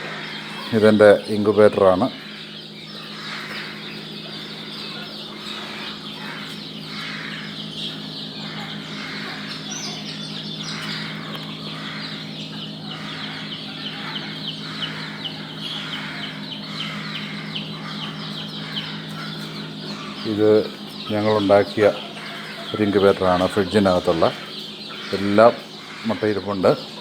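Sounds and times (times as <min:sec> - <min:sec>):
chicks peeping: 0:00.0 - 0:27.0
steady low hum: 0:00.0 - 0:27.0.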